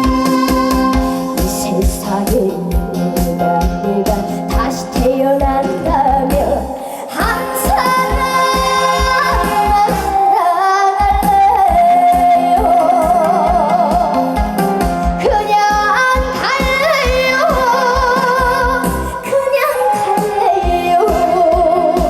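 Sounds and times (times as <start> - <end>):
backing track with kick drum: 0.0 - 10.3, 11.0 - 19.3
young woman singing: 0.0 - 22.0.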